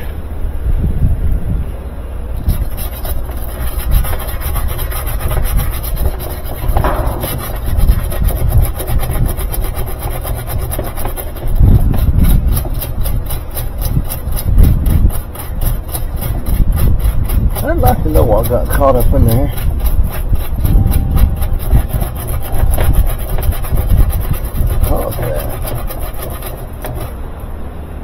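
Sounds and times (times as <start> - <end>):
wire brush scrubbing plastic: 2.4 - 27.5.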